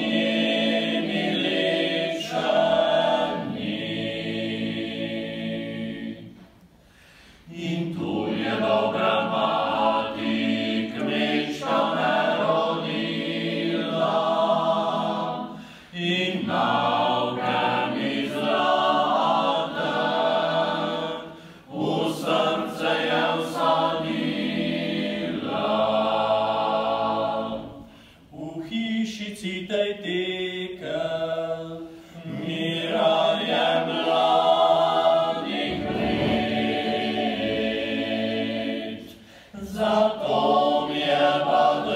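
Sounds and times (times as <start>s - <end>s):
men's choir singing a cappella: 0.0s - 6.4s, 7.4s - 41.9s.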